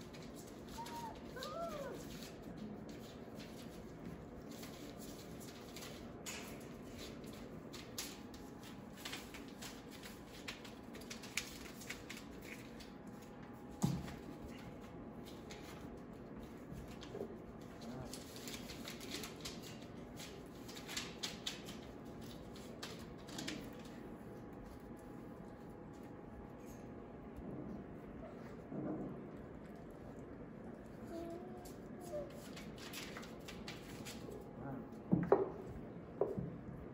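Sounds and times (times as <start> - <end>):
paper rustling and crinkling: 0.0 - 27.2, 28.3 - 34.5
small clicks and scuffs: 0.0 - 34.9.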